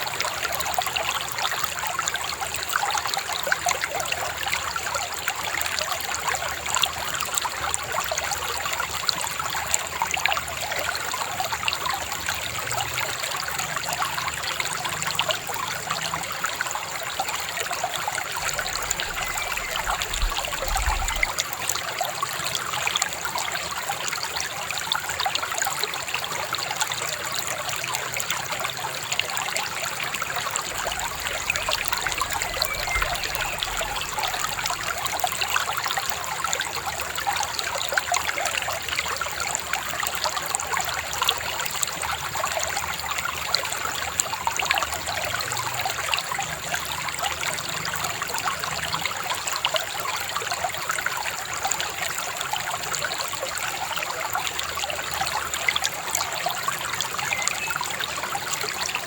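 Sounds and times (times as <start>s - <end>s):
babbling river: 0.0s - 59.0s.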